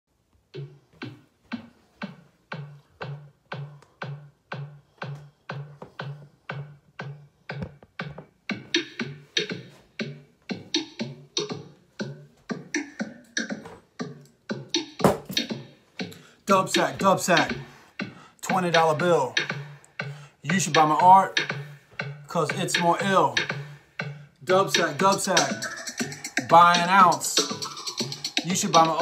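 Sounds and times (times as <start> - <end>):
electronic drum beat: 0.2 - 29.0
snare and hi-hat: 0.6 - 29.0.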